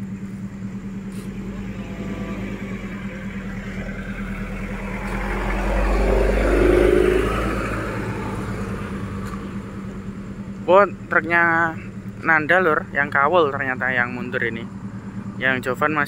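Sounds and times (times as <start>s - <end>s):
idling engines humming: 0.0s - 16.0s
vehicle engine passing by: 0.0s - 16.0s.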